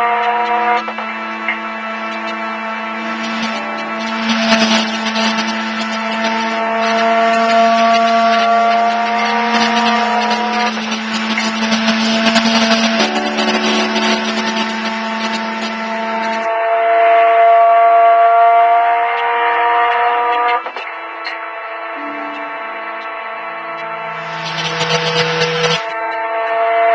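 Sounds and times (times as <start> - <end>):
electronic drone music: 0.0 - 26.9.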